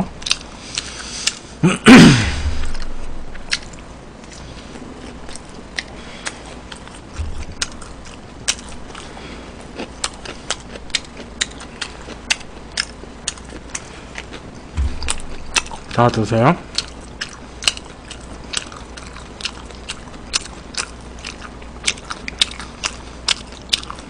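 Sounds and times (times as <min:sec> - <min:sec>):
chewing and crunching: 0:00.2 - 0:01.5, 0:02.7 - 0:24.0.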